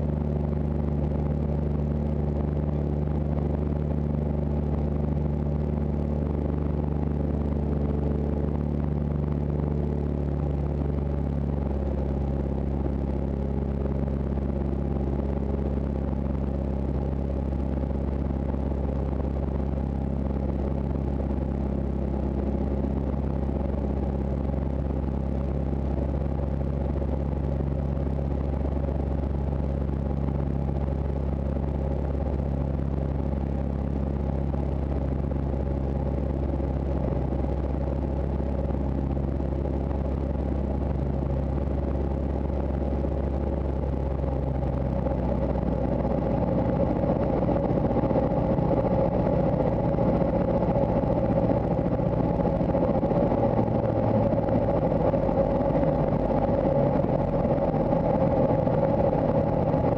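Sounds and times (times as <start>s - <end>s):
aircraft engine and propeller droning: 0.0s - 59.9s.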